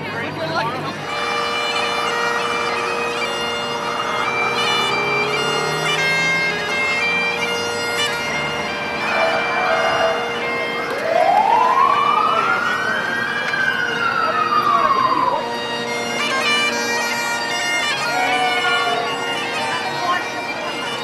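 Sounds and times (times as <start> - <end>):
bagpipes playing over drone: 0.0 - 21.0
siren wailing: 1.3 - 16.6, 17.9 - 20.1.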